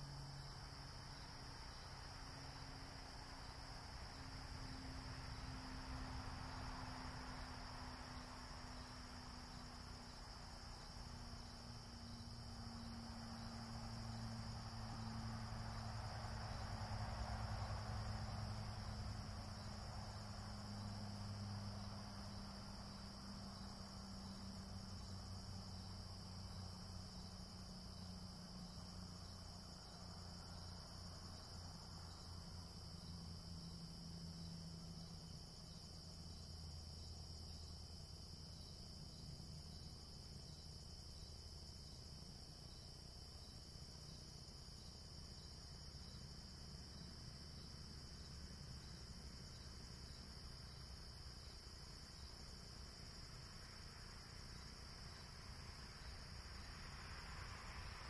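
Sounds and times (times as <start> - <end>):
crickets trilling: 0.0 - 58.0
faint low hum: 0.0 - 58.0.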